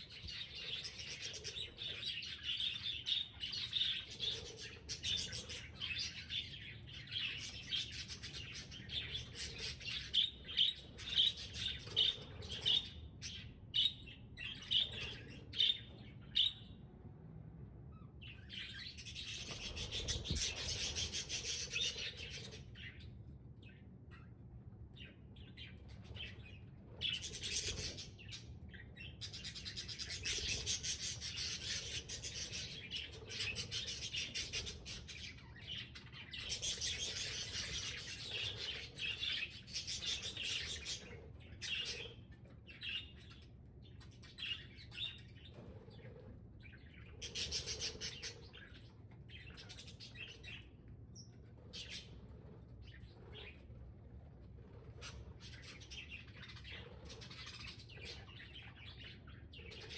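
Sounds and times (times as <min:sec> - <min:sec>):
budgerigars chattering and chirping: 0:00.1 - 0:16.8, 0:18.3 - 0:23.1, 0:25.0 - 0:53.7.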